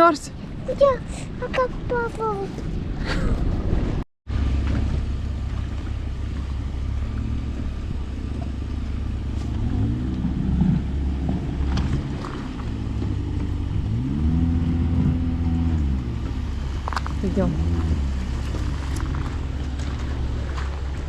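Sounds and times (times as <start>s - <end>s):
engine droning and revving: 0.0s - 21.0s.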